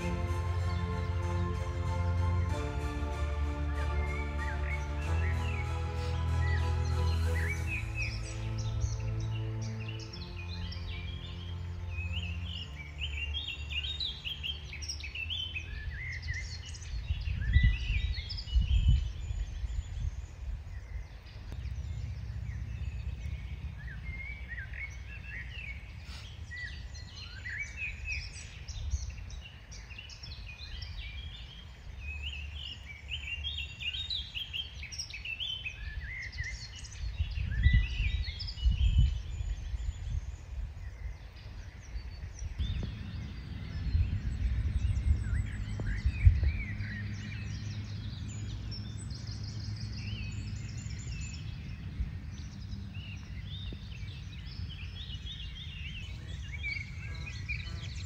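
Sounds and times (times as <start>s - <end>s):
low rumble: 0.0s - 27.8s, 36.5s - 58.0s
songbirds chirping and singing: 0.0s - 58.0s.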